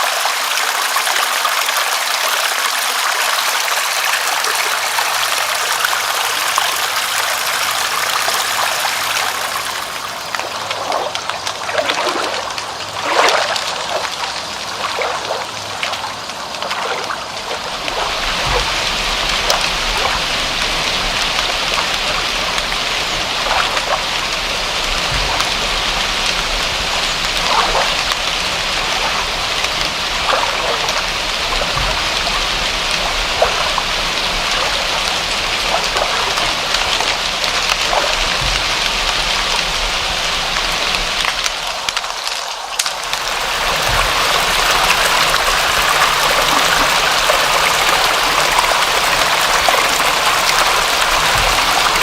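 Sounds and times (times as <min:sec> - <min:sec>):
rush of water: 0:00.0 - 0:52.0
steady rain: 0:00.0 - 0:52.0.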